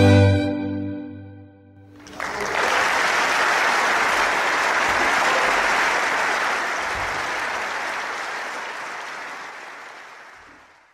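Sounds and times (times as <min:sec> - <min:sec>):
audience applauding: 0:01.9 - 0:10.9.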